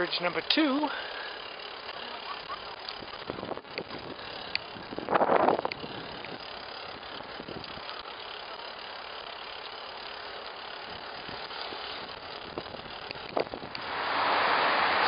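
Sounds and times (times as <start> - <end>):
bicycle tyre noise: 0.0 - 15.0
light clicks from bike: 1.0 - 13.9.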